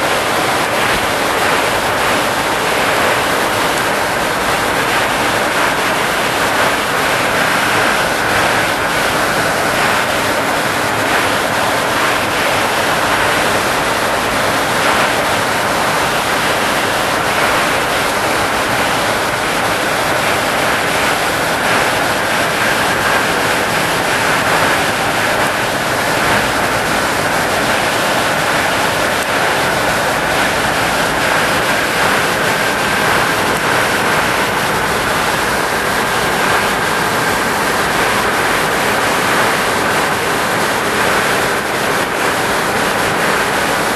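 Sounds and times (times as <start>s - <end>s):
rushing airflow noise: 0.0s - 43.9s.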